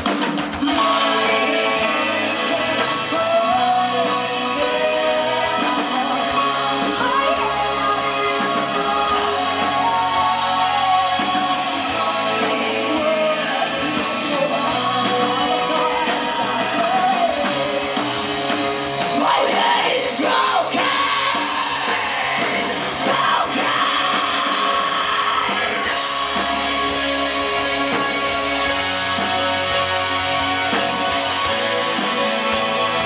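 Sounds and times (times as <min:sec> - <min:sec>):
electric guitar: 0:00.0 - 0:33.0
person singing: 0:00.5 - 0:28.5.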